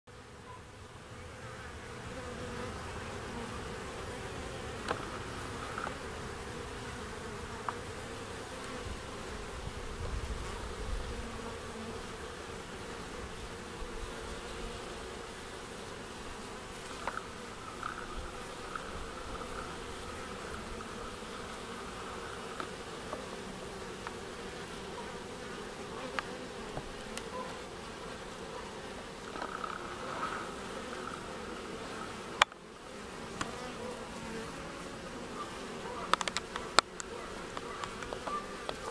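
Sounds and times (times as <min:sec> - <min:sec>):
honeybees buzzing: 0:00.1 - 0:38.9.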